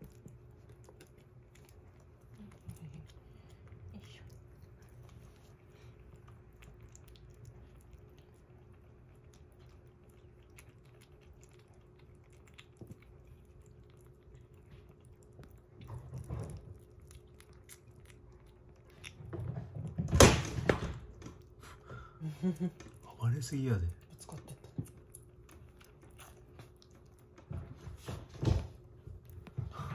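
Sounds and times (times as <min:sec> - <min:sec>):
kitten chewing and lapping food: 0:00.0 - 0:29.9.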